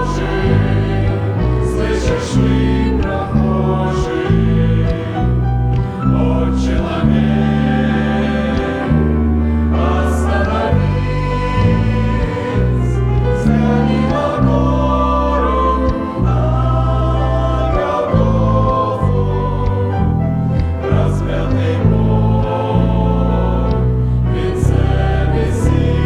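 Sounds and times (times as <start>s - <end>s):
choir singing: 0.0s - 26.0s
sustained bass notes: 0.0s - 26.0s.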